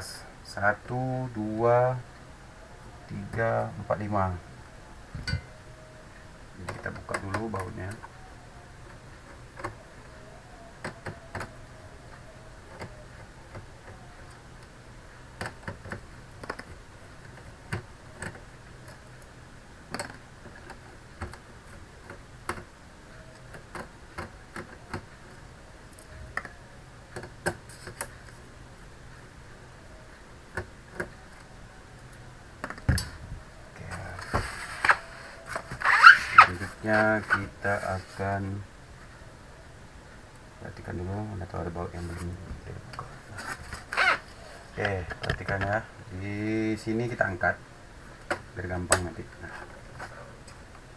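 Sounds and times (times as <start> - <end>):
faint hum: 0.0 - 50.9.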